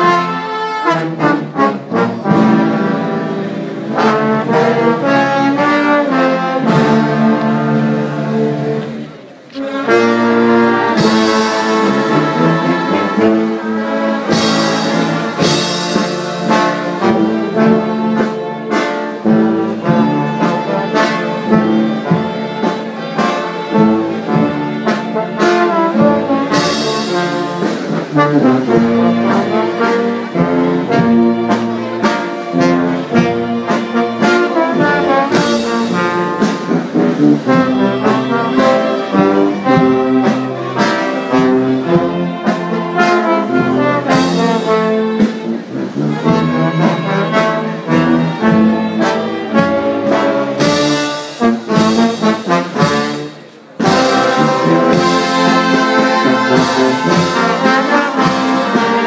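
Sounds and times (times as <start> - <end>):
brass band playing a march: 0.0 - 59.0.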